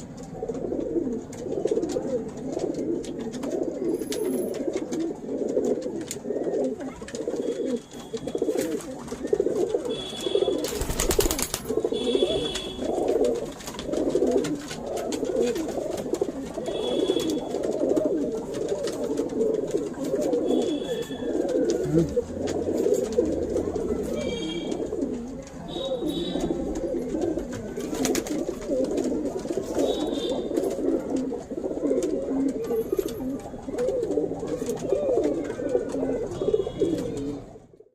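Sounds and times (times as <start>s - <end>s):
pigeons cooing: 0.0s - 37.8s.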